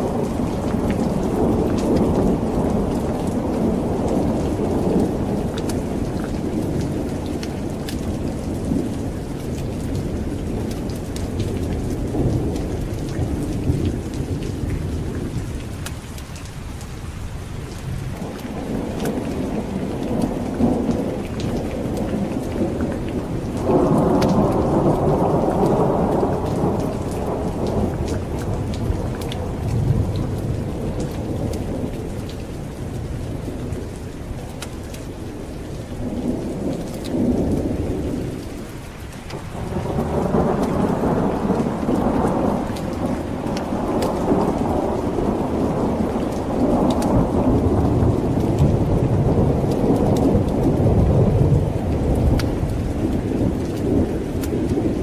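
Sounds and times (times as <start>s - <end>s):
rolling thunder: 0.0s - 15.9s, 17.9s - 34.5s, 39.3s - 55.0s
steady rain: 0.0s - 55.0s.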